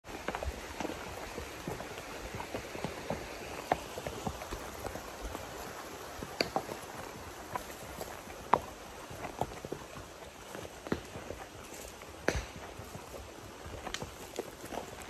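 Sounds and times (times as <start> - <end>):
horse hooves on dirt trail: 0.0 - 15.0.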